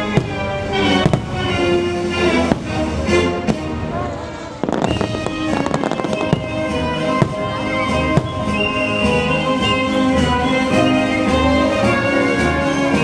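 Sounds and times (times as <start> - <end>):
fireworks bangs: 0.0 - 10.8
fireworks crackling bursts: 0.0 - 12.9
orchestral music: 0.0 - 13.0.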